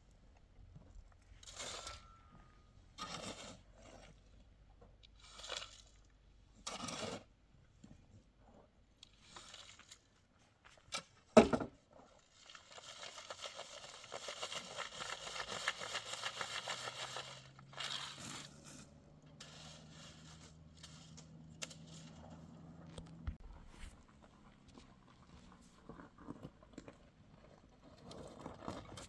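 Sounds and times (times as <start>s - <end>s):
rough scraping and crinkling: 0.3s - 4.6s, 5.2s - 29.0s.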